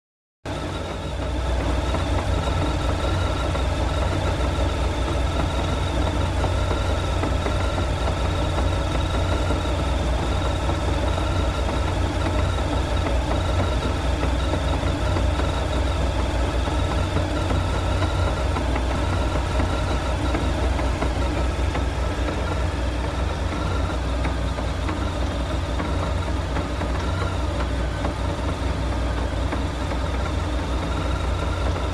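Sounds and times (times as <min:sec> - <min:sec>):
motorcycle engine running: 0:00.5 - 0:31.9.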